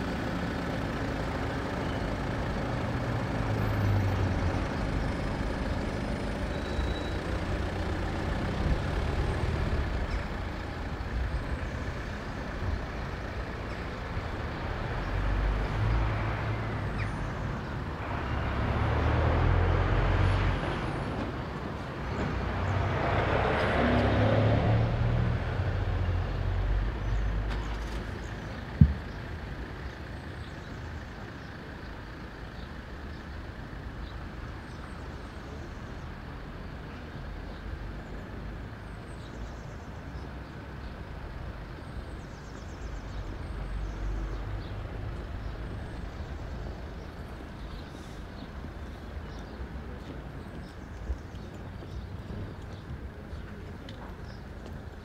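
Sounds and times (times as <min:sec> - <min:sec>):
road vehicle rumble: 0:00.0 - 0:55.0.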